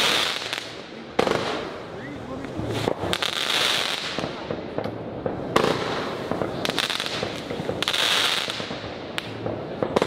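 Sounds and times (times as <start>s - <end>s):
fireworks hiss: 0.0s - 4.6s, 5.6s - 9.6s
fireworks bangs and pops: 0.0s - 10.0s.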